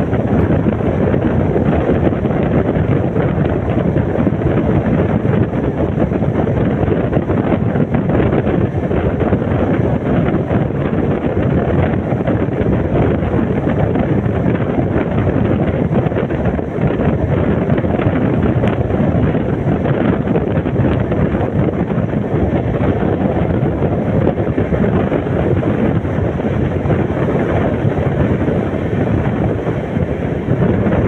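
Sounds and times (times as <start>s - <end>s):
train rumbling at speed: 0.0s - 31.0s
wind buffeting the microphone: 0.0s - 31.0s.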